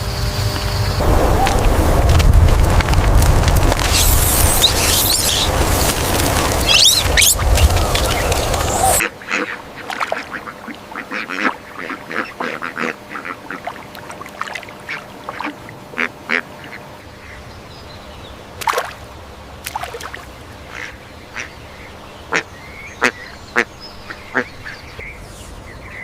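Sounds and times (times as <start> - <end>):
birds calling: 3.8 - 26.0.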